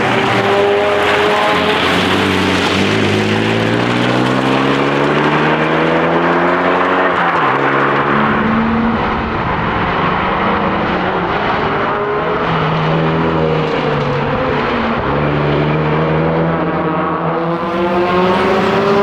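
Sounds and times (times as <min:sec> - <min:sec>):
car engine accelerating hard: 0:00.0 - 0:19.0
road and wind noise: 0:00.0 - 0:19.0.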